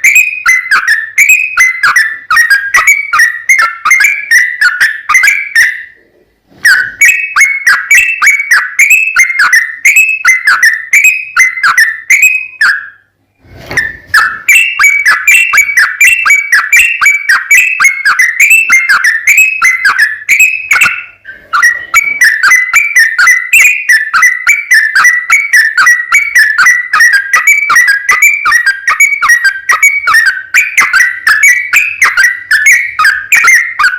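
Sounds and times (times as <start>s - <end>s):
bulbul singing whistled notes: 0.0s - 6.0s, 6.6s - 13.1s, 13.7s - 33.9s.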